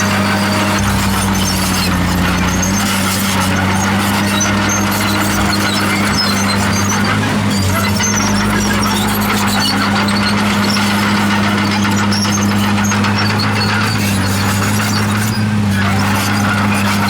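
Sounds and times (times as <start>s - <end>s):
bulldozer diesel engine running: 0.0s - 17.0s
track squeaks and squeals: 0.0s - 17.0s.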